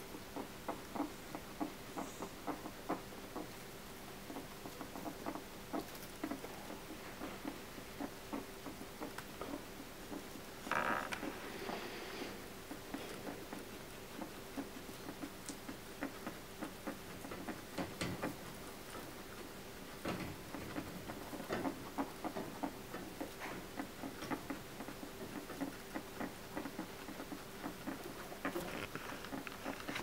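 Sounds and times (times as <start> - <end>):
faint steady hum: 0.0 - 30.0
guinea pig crunching food pellets: 4.1 - 30.0.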